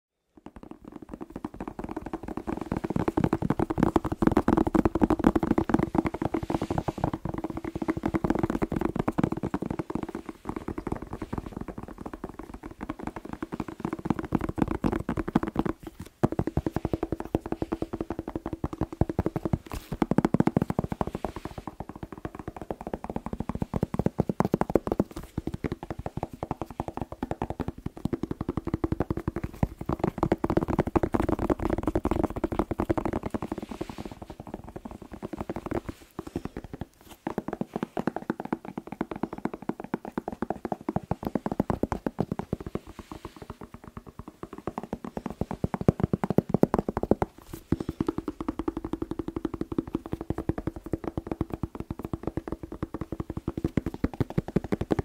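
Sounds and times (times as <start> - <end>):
fingertips tapping on pepper: 0.4 - 55.0.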